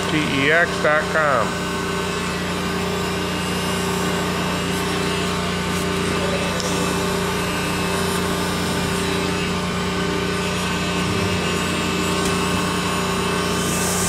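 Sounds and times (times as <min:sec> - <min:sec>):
heat gun fan humming: 0:00.0 - 0:14.0.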